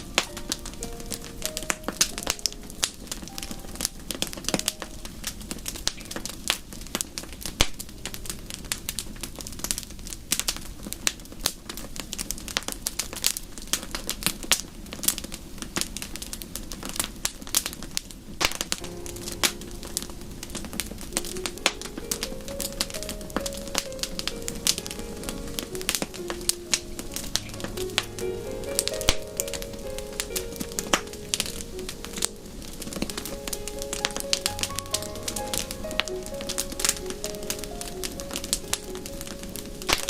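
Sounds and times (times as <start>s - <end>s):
low fire rumble: 0.0s - 40.0s
wood fire crackling and popping: 0.0s - 40.0s.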